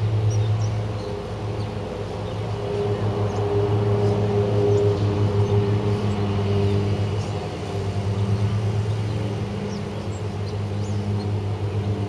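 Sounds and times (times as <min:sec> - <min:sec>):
low mechanical hum: 0:00.0 - 0:12.0
wind buffeting microphone: 0:00.0 - 0:12.0.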